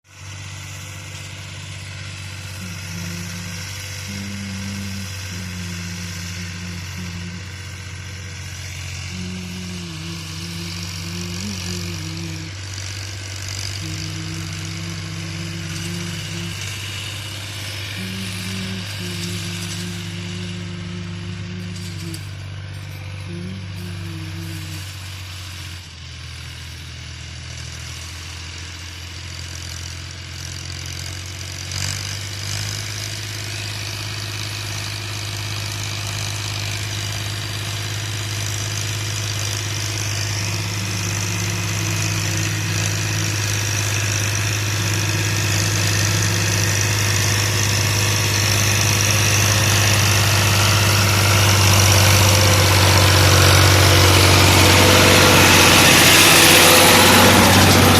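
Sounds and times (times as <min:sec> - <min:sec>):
tractor diesel engine idling: 0:00.1 - 0:57.9.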